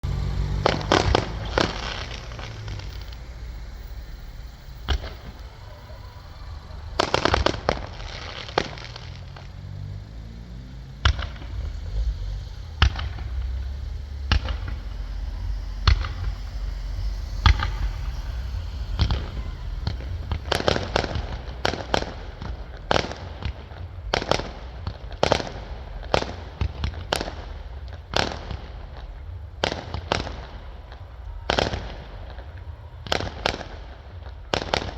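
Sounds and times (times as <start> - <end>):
low rumble: 0.0 - 33.5
fireworks bangs: 0.0 - 34.9
fireworks crackling: 0.0 - 34.9.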